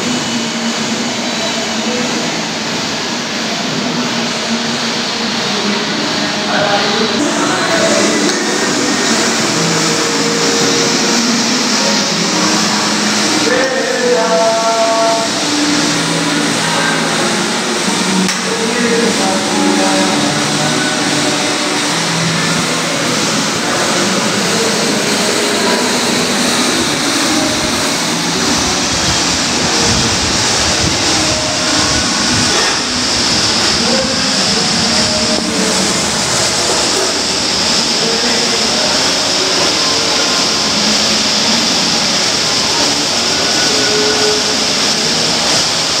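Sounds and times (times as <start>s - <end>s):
rowing machine flywheel whirring: 0.0s - 46.0s.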